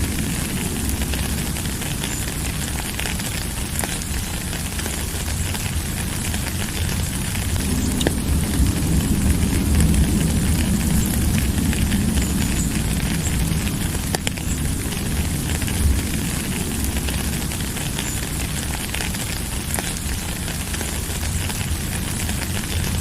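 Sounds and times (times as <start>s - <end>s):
low rumble: 0.0s - 23.0s
rain hissing: 0.0s - 23.0s.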